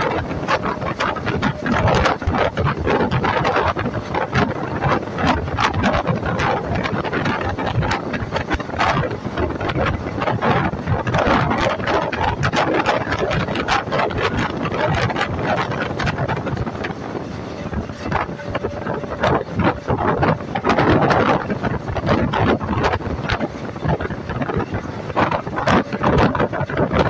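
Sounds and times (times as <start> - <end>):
train running noise: 0.0 - 27.0
wheels clattering on rails: 0.0 - 27.0
wind buffeting microphone: 0.0 - 27.0.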